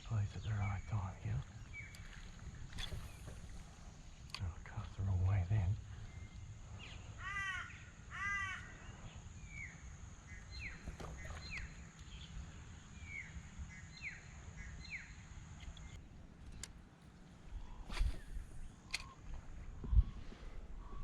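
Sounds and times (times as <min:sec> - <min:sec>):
bird calling: 0:00.0 - 0:21.0.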